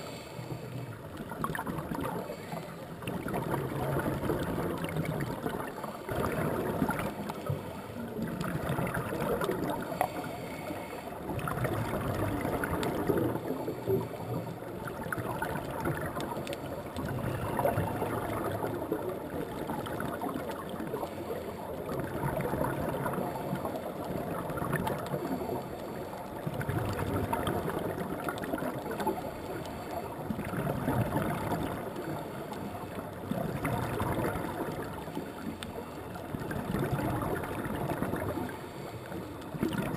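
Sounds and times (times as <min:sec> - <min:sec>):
bubbly gurgling exhalations: 0:00.0 - 0:39.9
underwater wash: 0:00.0 - 0:39.9.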